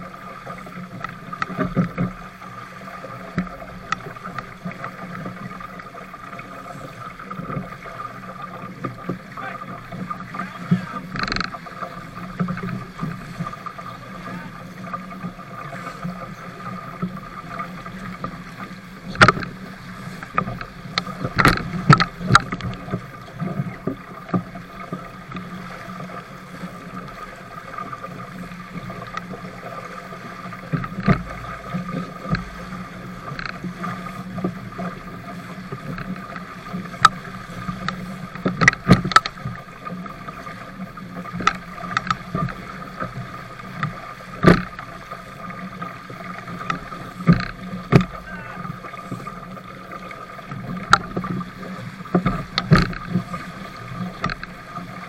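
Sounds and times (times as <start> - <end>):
water rushing along hull: 0.0 - 55.0
waves slapping boat: 0.0 - 55.0
wind: 0.0 - 55.0.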